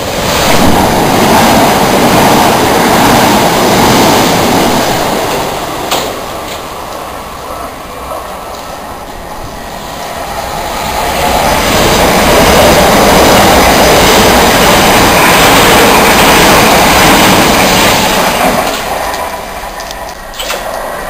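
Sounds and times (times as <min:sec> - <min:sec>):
train wheels rushing on rail: 0:00.0 - 0:21.0.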